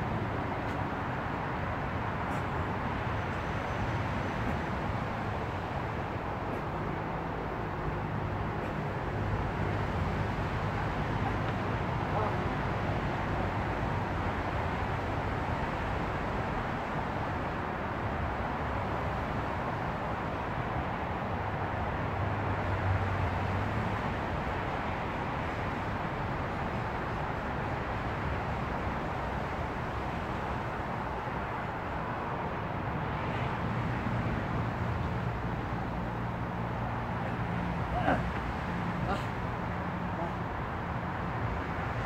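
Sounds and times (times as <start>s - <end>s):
distant traffic hiss and rumble: 0.0s - 42.0s.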